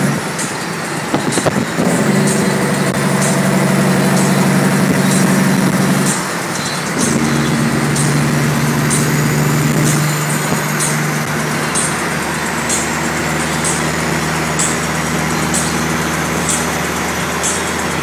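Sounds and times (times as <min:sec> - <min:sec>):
road and wind noise: 0:00.0 - 0:18.0
truck diesel engine droning: 0:00.0 - 0:18.0.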